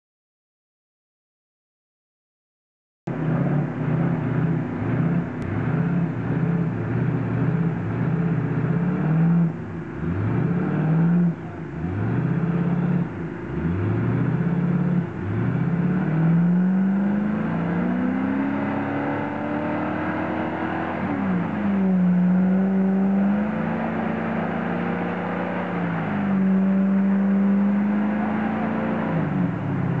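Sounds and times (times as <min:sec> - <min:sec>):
engine revving hard: 0:03.1 - 0:30.0.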